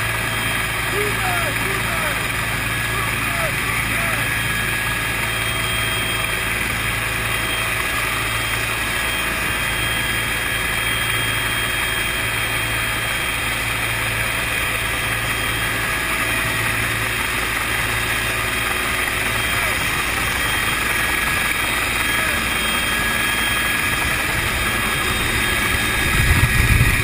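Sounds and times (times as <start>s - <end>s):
helicopter turbine and rotor noise: 0.0s - 27.0s.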